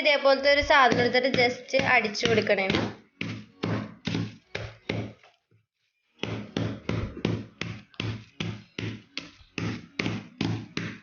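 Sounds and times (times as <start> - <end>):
thuds crushing biscuits: 0.6 - 5.5, 6.2 - 11.0.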